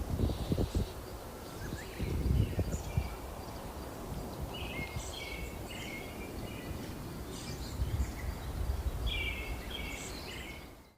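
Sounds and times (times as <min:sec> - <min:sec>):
wind buffeting microphone: 0:00.0 - 0:10.8
birds chirping: 0:00.2 - 0:10.9.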